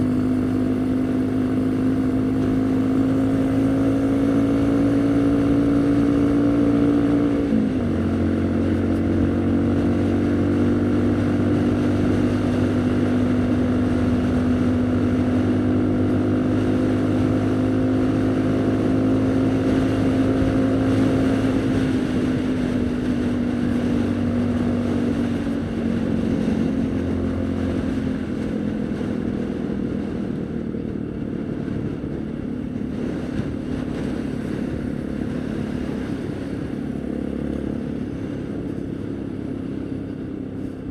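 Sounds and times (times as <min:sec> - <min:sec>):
motorcycle engine cruising: 0:00.0 - 0:40.9
wind noise: 0:00.0 - 0:40.9.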